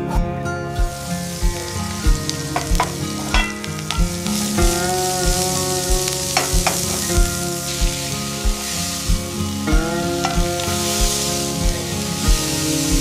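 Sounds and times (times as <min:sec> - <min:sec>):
background music with steady beat: 0:00.0 - 0:13.0
steady sizzling hiss: 0:00.0 - 0:13.0.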